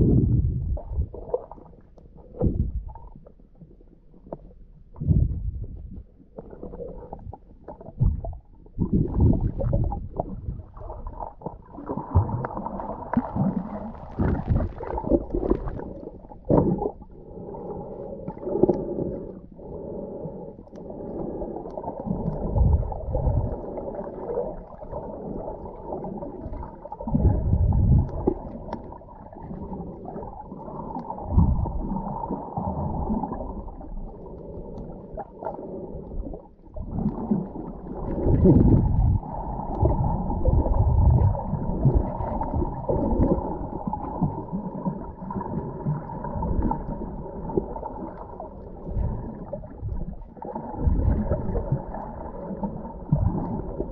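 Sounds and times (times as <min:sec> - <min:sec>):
muffled underwater water rumbling: 0:00.0 - 0:53.9.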